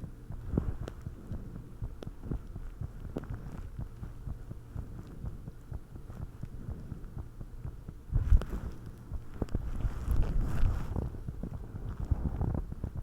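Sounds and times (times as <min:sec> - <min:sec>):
heartbeat thumps: 0:00.0 - 0:13.0.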